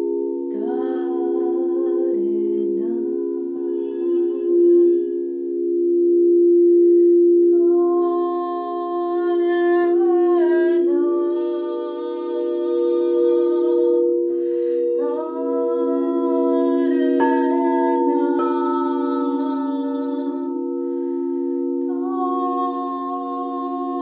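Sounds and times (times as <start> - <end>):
person humming: 0.0 - 5.5, 7.4 - 24.0
singing bowls ringing: 0.0 - 24.0.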